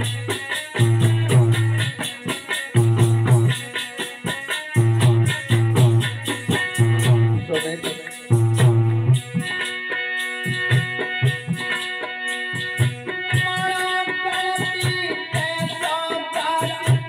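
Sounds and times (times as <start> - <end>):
hand drum beating: 0.0 - 9.8, 10.5 - 17.0.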